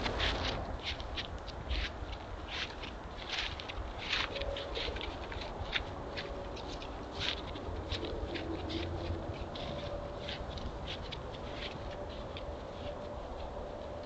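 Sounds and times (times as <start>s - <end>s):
hooves crunching leaves and snow: 0.0s - 14.0s.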